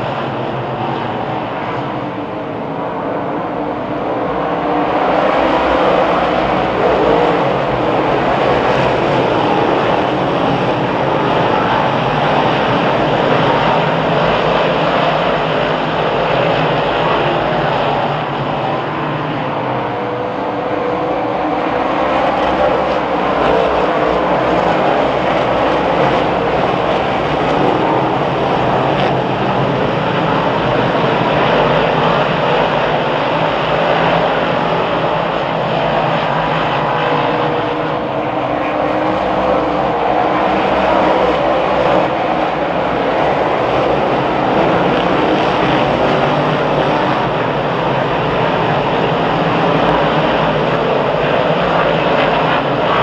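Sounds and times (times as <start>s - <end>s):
race car engines roaring: 0.0s - 53.0s.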